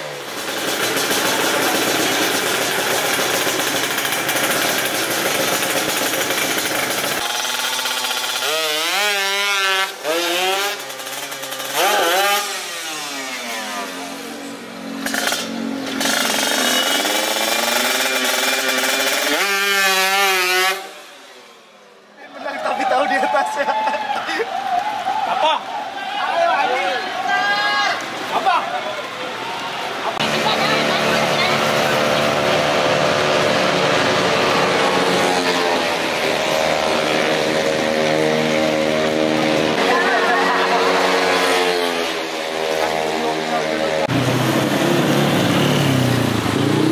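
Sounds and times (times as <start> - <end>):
motorcycle engine revving: 0.0 - 22.0, 30.2 - 46.9.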